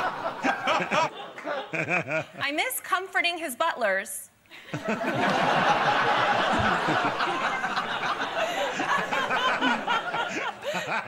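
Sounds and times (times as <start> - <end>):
audience laughing: 0.0 - 2.4, 4.6 - 11.0.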